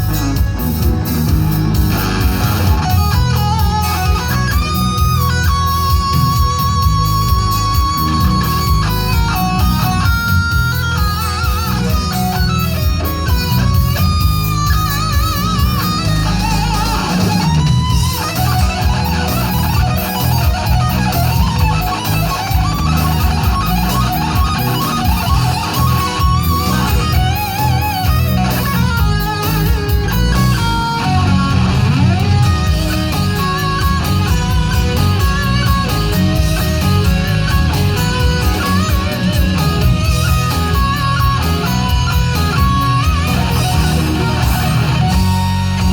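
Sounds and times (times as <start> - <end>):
electric guitar lead with vibrato: 0.0 - 45.9
rock band playing: 0.0 - 45.9.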